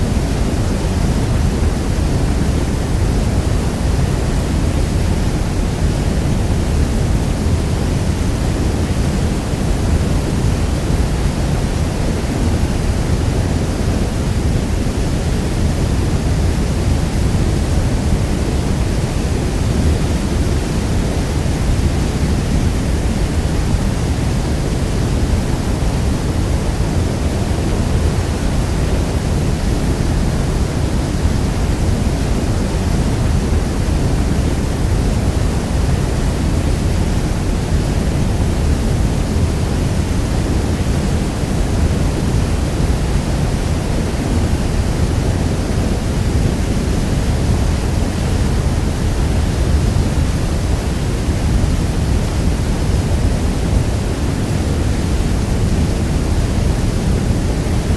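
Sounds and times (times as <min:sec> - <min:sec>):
waterfall roaring: 0:00.0 - 0:57.9.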